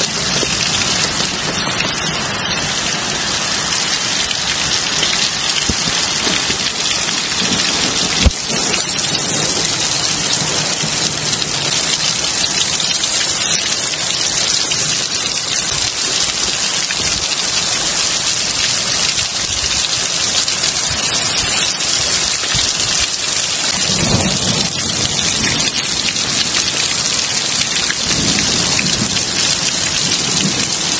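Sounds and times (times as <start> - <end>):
heavy rain: 0.0 - 30.9
thunder rumbling: 0.0 - 30.9.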